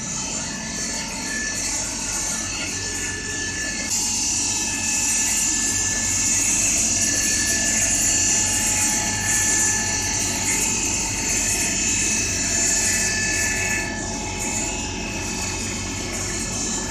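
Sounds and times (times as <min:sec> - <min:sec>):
low machine hum: 0:00.0 - 0:16.9
machine whining tones: 0:00.0 - 0:16.9.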